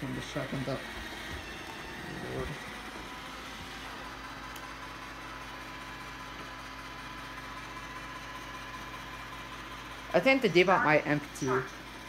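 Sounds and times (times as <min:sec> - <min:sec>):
robot vacuum motor hum: 0:00.0 - 0:12.0.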